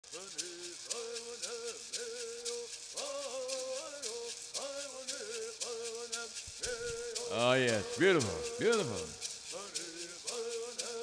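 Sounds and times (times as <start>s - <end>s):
gourd rattles shaken: 0.1s - 11.0s
men singing in unison: 0.1s - 11.0s.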